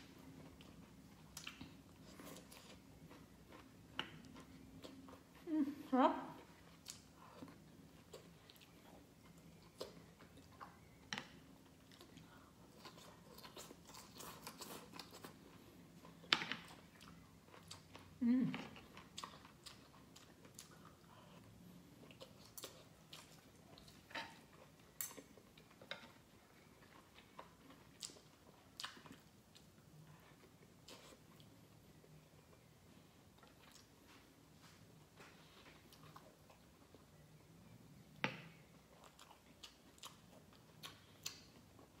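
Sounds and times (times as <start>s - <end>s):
person chewing food: 0.0s - 5.5s, 6.4s - 37.7s, 38.5s - 42.0s.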